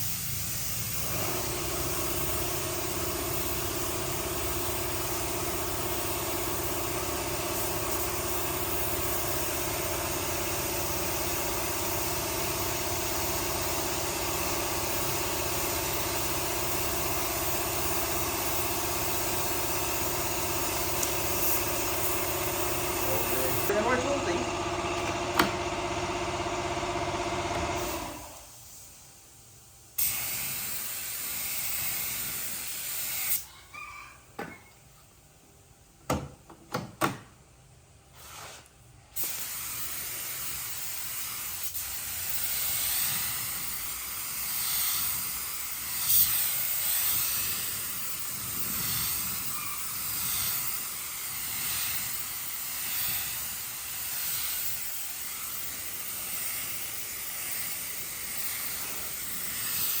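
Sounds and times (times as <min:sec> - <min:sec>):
air gun hissing: 0:00.0 - 0:25.6, 0:30.0 - 0:33.5, 0:38.1 - 1:00.0.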